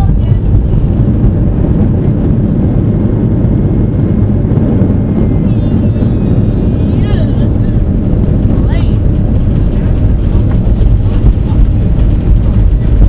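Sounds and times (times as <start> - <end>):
loud steady aircraft rumble: 0.0 - 13.0.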